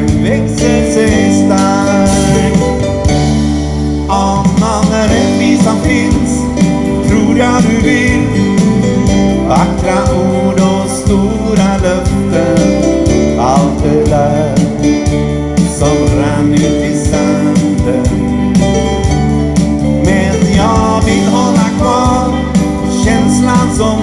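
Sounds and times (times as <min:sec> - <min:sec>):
bass guitar: 0:00.0 - 0:24.0
drum kit: 0:00.0 - 0:24.0
electric guitar: 0:00.0 - 0:24.0.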